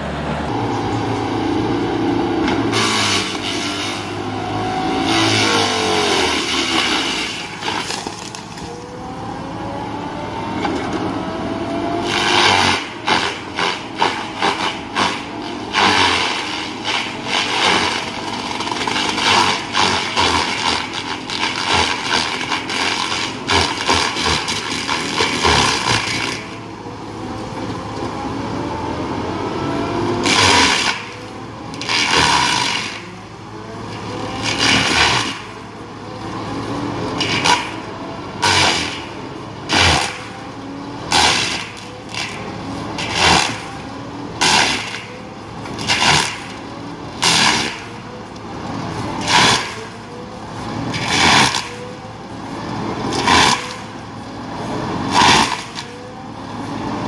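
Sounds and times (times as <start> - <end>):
diesel engine: 0.0 - 57.0
mulcher grinding tree trunks: 0.0 - 57.0.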